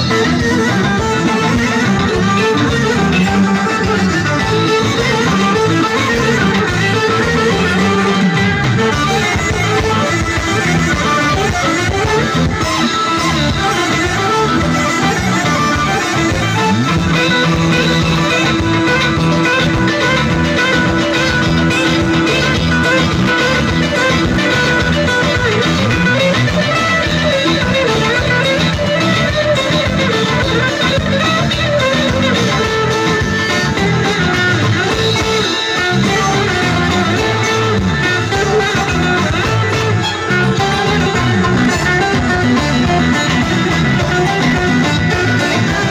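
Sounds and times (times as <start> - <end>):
band music with guitar lead: 0.0 - 45.9.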